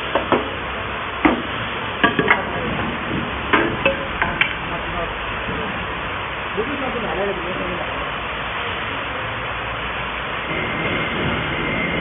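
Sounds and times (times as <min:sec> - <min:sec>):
machinery hissing: 0:00.0 - 0:12.0.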